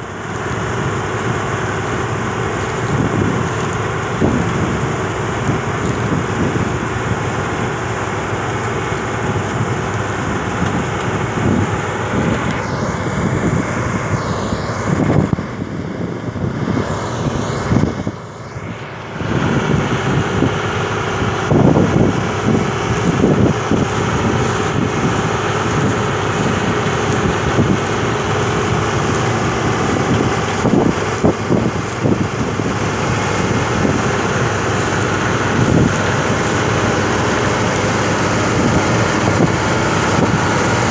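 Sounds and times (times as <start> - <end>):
combine harvester running: 0.0 - 40.9
wind buffeting microphone: 0.0 - 40.9.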